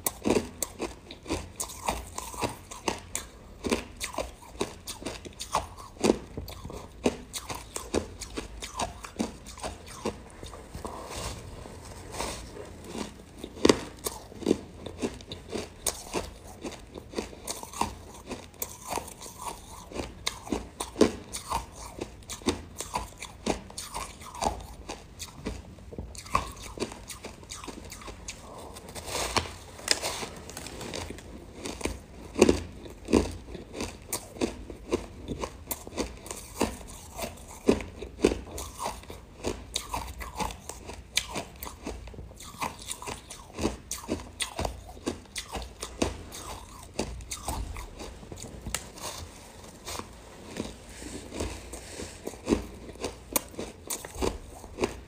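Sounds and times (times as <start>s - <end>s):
ice being bitten and chewed: 0.0s - 55.0s.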